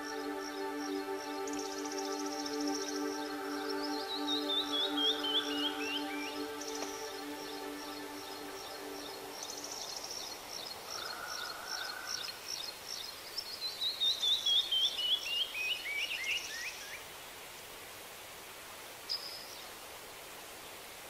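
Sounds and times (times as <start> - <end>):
steady hiss: 0.0 - 13.6, 15.0 - 21.0
bird chirping: 0.0 - 16.9.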